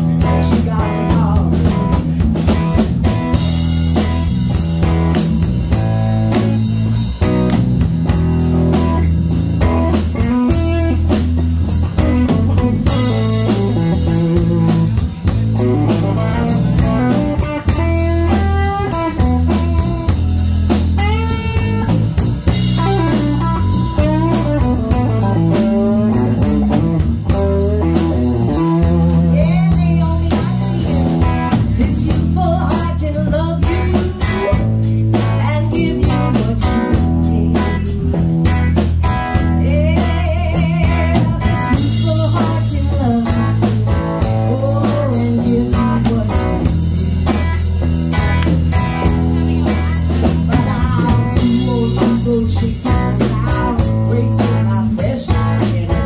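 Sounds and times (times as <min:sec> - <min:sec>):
electric guitar bent notes: 0:00.0 - 0:56.0
live rock band playing: 0:00.0 - 0:56.0.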